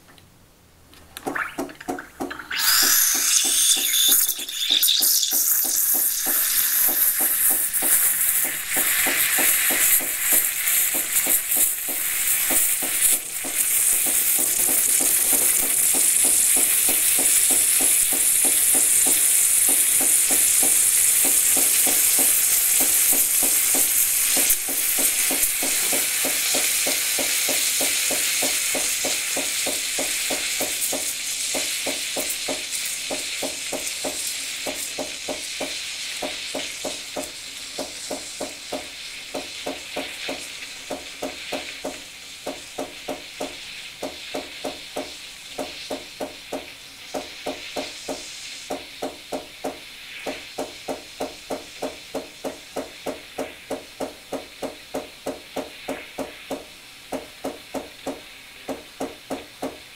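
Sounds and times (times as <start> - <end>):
steam wand hissing into milk: 2.2 - 59.9.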